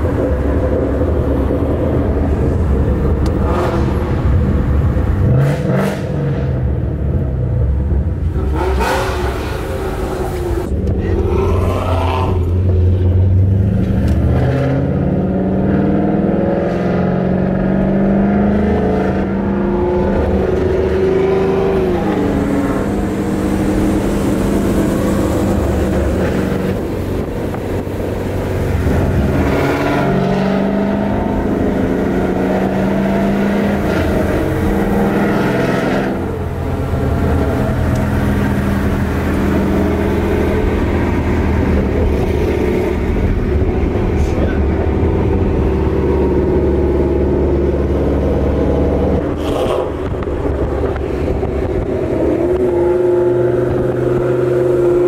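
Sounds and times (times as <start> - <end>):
car engine and exhaust revving: 0.0 - 55.0.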